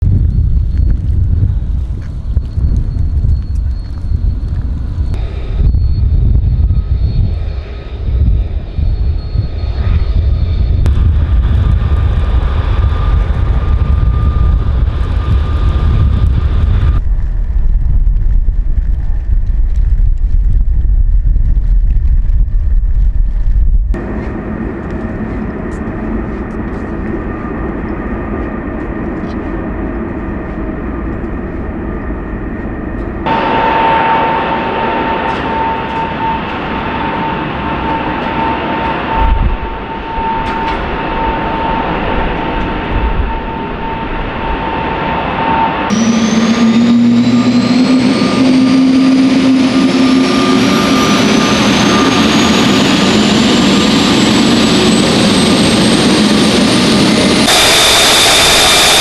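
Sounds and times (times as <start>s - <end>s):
jet engine running: 0.0s - 59.0s
jet engine whine: 0.0s - 59.0s.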